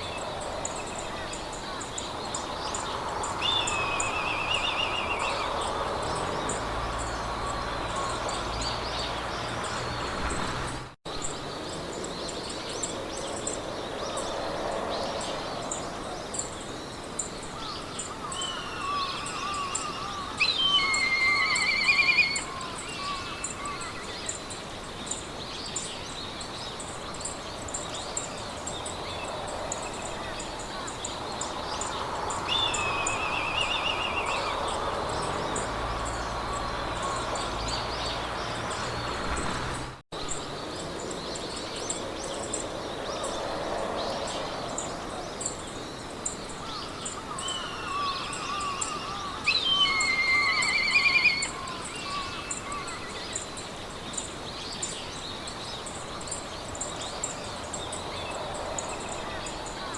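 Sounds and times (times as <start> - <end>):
high insect chirp: 0.0 - 39.6, 40.2 - 59.9
birds singing warbling trills: 0.0 - 59.9.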